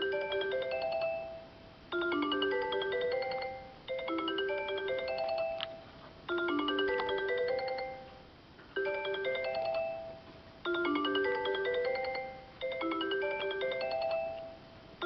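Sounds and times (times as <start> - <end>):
mobile phone ringtone melody: 0.0 - 8.2, 8.8 - 14.7.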